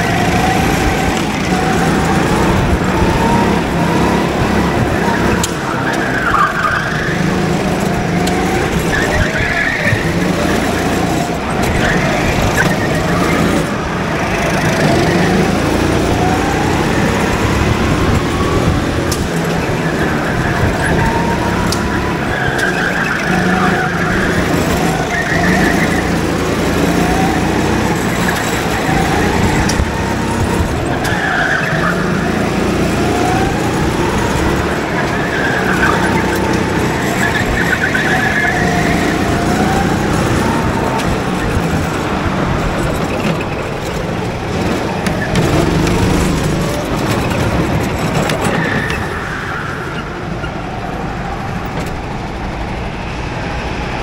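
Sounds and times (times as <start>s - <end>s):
go-kart engines accelerating: 0.0s - 54.0s.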